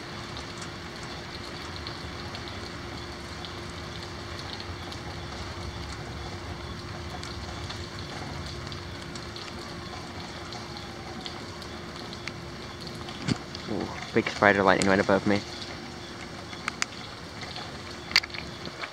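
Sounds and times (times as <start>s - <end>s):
faint drip ticks: 0.0s - 18.9s
steady rain falling: 0.0s - 18.9s.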